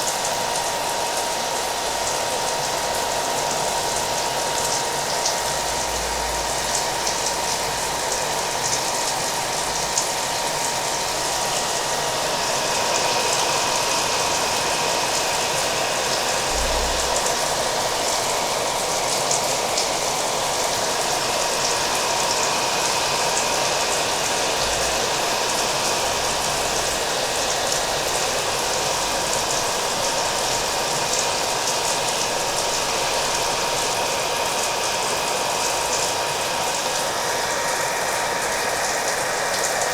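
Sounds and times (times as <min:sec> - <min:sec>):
hair dryer whining: 0:00.0 - 0:39.9.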